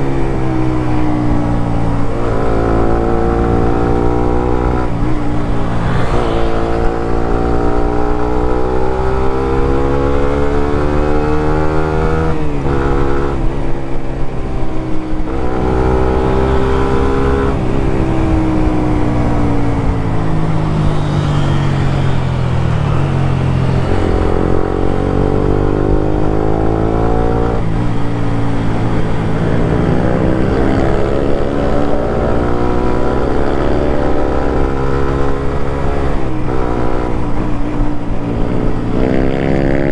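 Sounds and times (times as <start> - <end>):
motorcycle engine revving: 1.3 - 13.7, 14.7 - 39.9.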